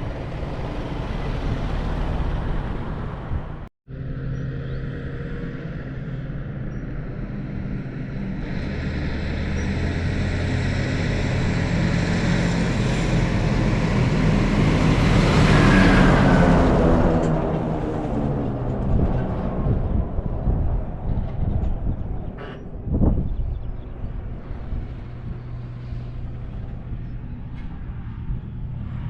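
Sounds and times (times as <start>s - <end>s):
tractor engine passing: 0.0s - 29.0s.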